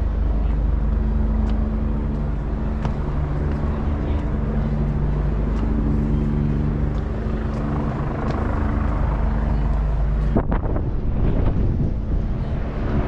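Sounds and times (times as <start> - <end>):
street noise: 0.0 - 13.0
vehicle engine rumbling: 0.0 - 13.0.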